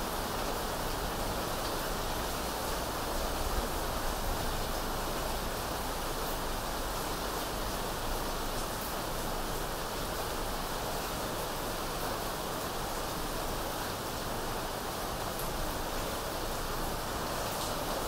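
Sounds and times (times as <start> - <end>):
falling rain: 0.0 - 18.0.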